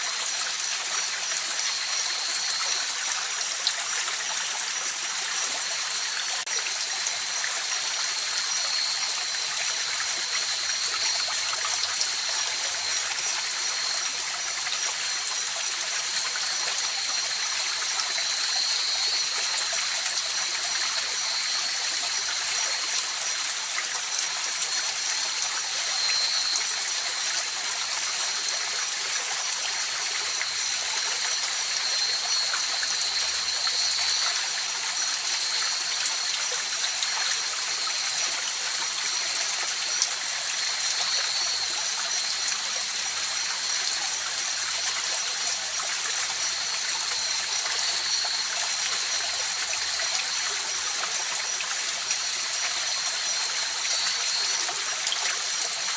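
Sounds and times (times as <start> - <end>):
night insects chirping: 0.2 - 55.9.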